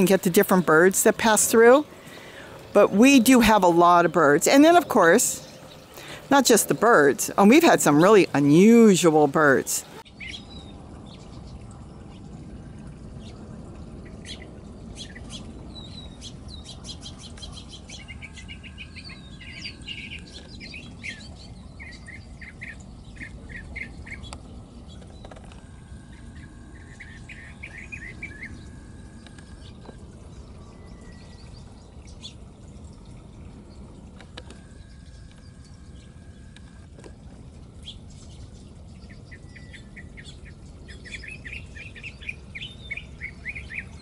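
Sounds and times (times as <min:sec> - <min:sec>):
birds chirping: 0:00.0 - 0:44.0
low background rumble: 0:00.0 - 0:44.0.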